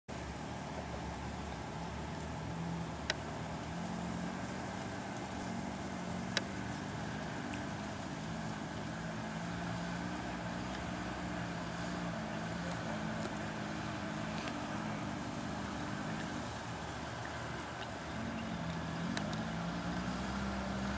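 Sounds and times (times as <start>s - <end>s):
car engine running: 0.1s - 20.9s.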